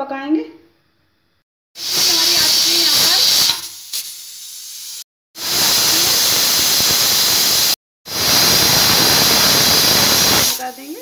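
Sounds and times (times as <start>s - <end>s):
pressure cooker whistling steam hiss: 1.8s - 11.0s.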